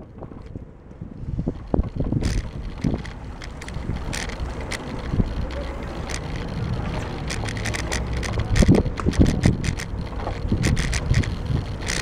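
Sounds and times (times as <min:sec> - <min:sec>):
bicycle tyres rumbling on paving: 0:00.0 - 0:12.0
bike rattling: 0:00.0 - 0:12.0
wind on microphone: 0:00.0 - 0:12.0.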